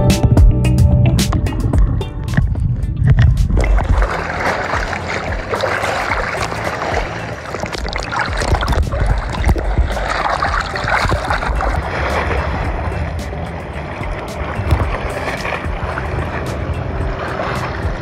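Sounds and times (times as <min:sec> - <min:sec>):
seawater sloshing and splashing: 0:01.2 - 0:18.0.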